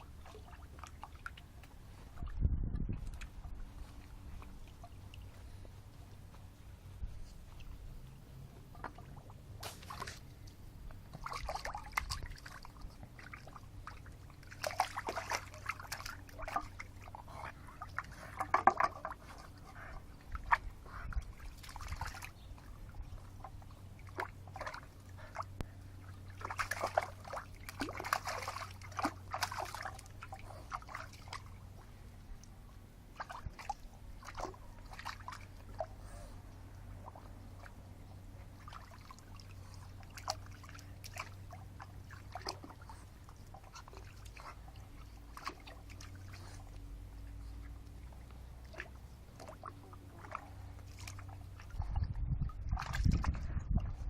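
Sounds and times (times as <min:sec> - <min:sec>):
water sloshing and splashing: 0:00.0 - 0:54.0.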